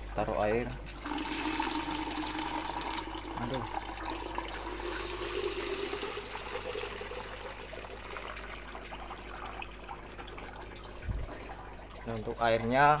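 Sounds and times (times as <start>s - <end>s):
water pouring into plastic bottle: 0.9s - 12.1s.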